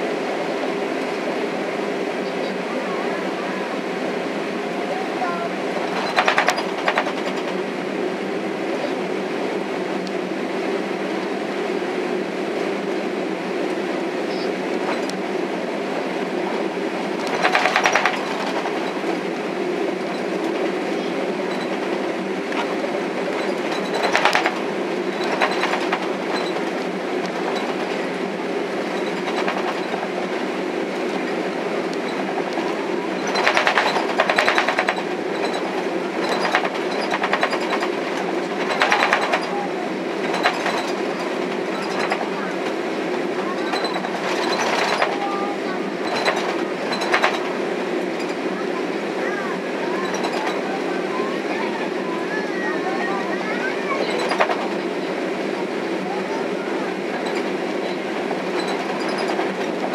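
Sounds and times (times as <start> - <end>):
aircraft cabin engine hum: 0.0 - 59.9.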